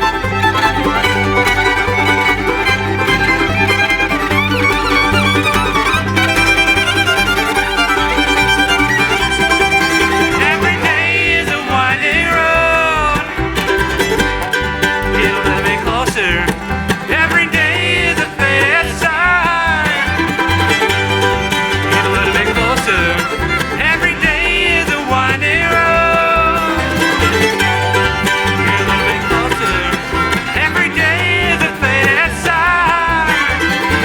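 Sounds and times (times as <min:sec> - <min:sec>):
banjo: 0:00.0 - 0:34.0
bluegrass band playing: 0:00.0 - 0:34.0.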